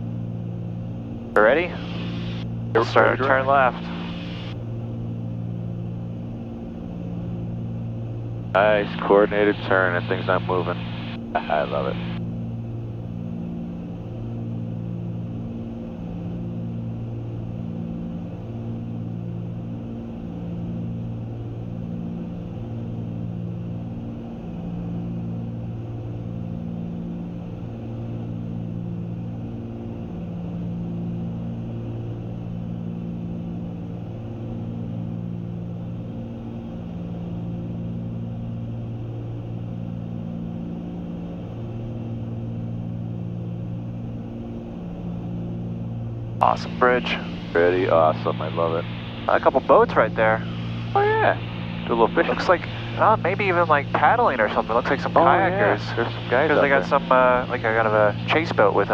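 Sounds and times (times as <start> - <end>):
aircraft engines droning with throb: 0.0 - 58.9.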